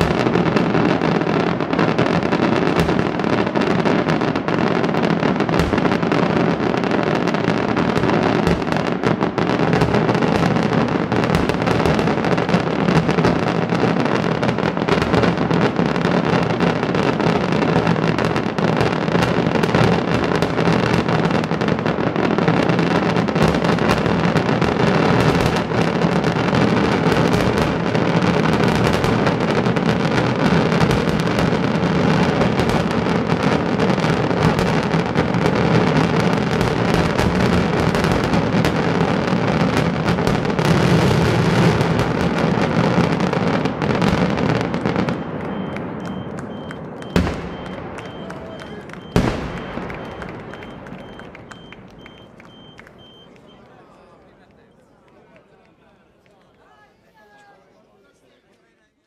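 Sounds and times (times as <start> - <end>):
firecrackers banging and crackling: 0.0 - 56.6.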